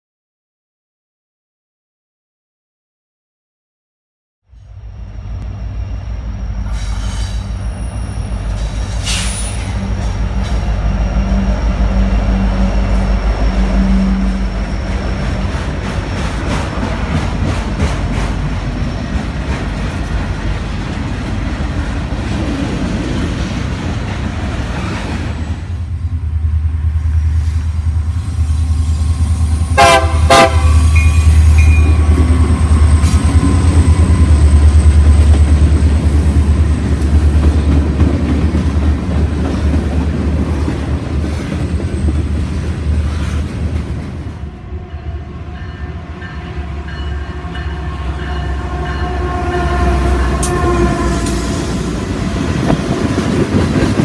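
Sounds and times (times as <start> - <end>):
diesel locomotive engine rumbling: 4.5 - 54.0.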